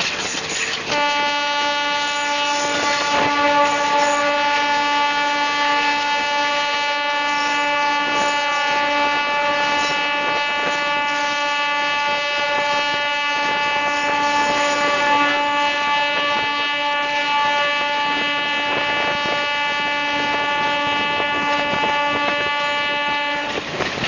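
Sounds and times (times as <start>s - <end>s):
locomotive engine drone: 0.0s - 24.0s.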